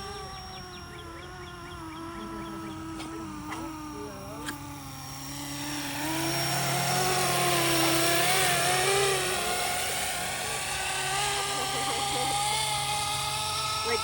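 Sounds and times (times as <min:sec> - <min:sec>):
rc helicopter rotor whine: 0:00.0 - 0:14.0.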